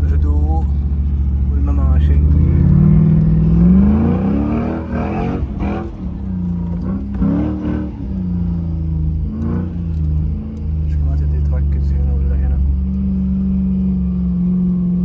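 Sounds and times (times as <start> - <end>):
steady low drone: 0.0 - 14.4
car engine revving: 0.0 - 15.0.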